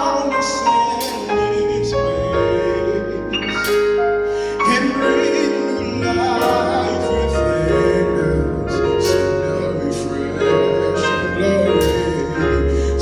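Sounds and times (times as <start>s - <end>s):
gospel choir singing: 0.0s - 13.0s
instrumental accompaniment: 0.0s - 13.0s.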